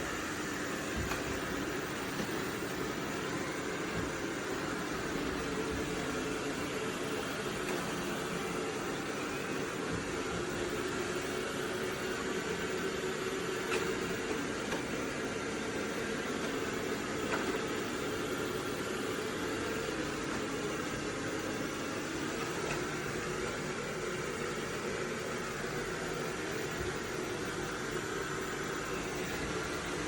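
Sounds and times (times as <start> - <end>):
robot vacuum humming: 0.0 - 30.0.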